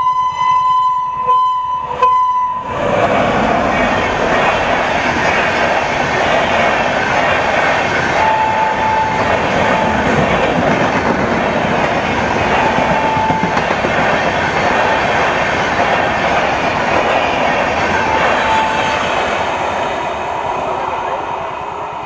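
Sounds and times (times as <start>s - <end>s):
train wheels rushing on rails: 1.8s - 22.0s.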